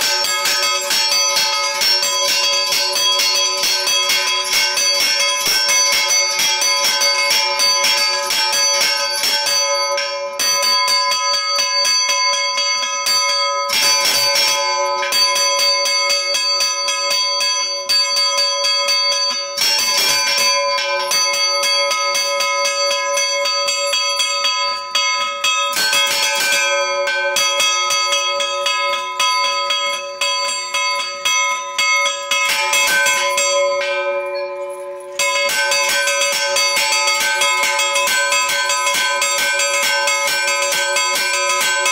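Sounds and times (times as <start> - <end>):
church bells rung fast: 0.0 - 41.9.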